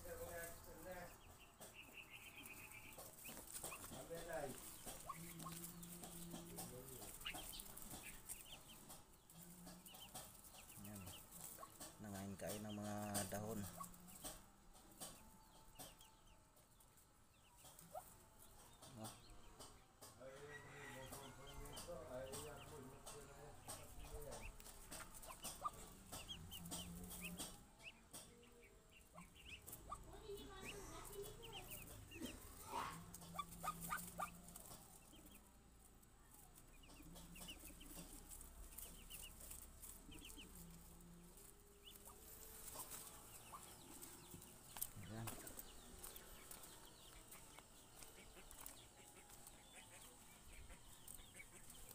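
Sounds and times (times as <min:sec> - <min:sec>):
ducklings peeping: 0:00.0 - 0:51.9.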